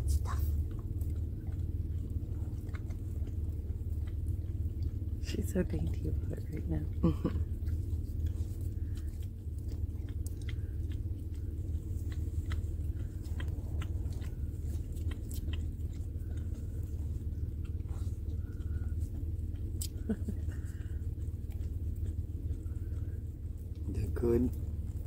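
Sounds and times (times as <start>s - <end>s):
low hum inside car: 0.0s - 25.0s
puppy licking ice cream: 0.0s - 25.0s.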